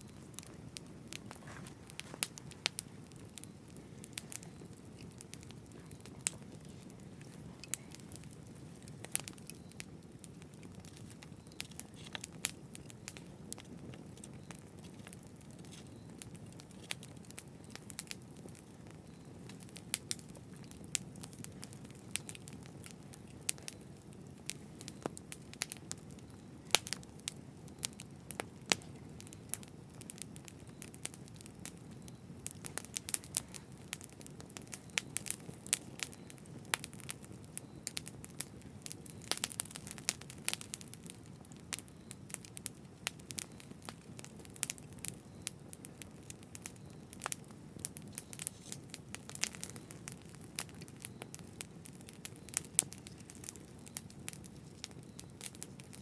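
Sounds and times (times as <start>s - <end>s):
wood crackling and popping: 0.0s - 56.0s.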